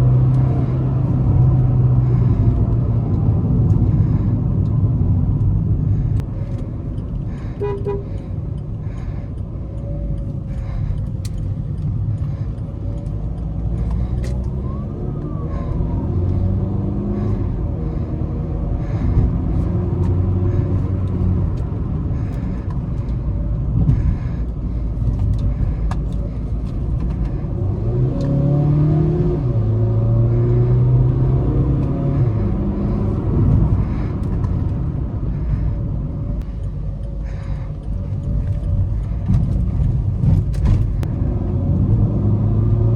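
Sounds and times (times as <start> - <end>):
diesel engine accelerating: 0.0 - 42.9.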